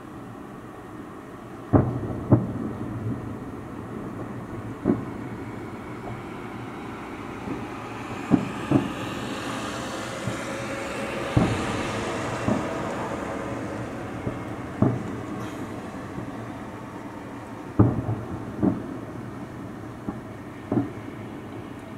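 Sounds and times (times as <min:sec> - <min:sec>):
steady background rumble: 0:00.0 - 0:21.9
distant fireworks booms: 0:01.6 - 0:21.9.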